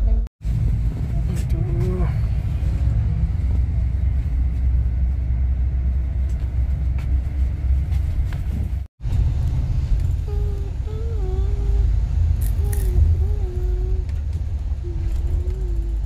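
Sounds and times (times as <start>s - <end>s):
low rumble of coach on highway: 0.0s - 16.0s.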